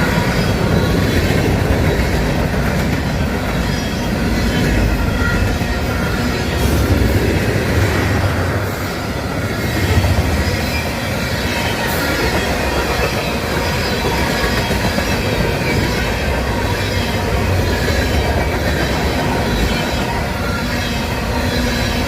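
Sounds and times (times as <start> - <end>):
freight train cars rumbling past: 0.0 - 22.0.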